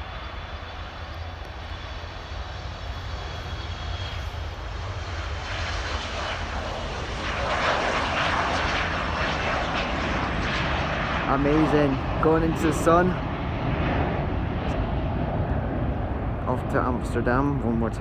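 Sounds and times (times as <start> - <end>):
jet engines at takeoff: 0.0 - 18.0.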